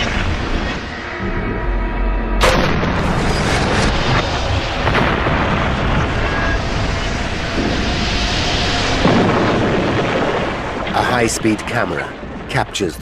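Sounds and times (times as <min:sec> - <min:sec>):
rushing rumbling noise: 0:00.0 - 0:13.0
explosion blast: 0:02.4 - 0:13.0.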